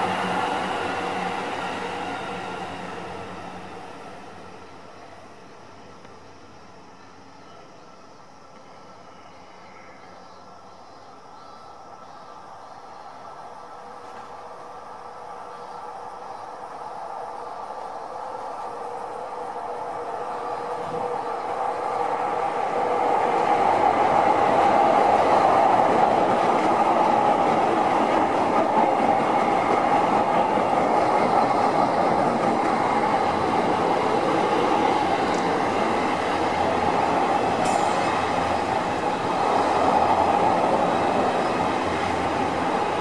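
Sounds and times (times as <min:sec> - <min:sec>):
electric train passing: 0:00.0 - 0:43.0.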